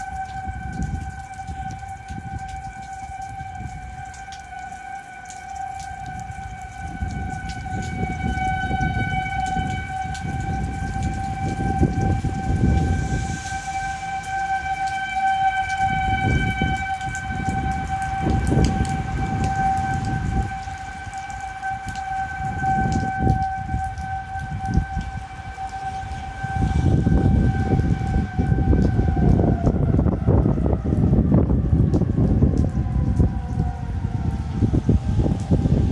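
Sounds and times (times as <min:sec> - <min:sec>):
warning siren steady tone: 0:00.0 - 0:35.9
wind buffeting microphone: 0:00.0 - 0:35.9.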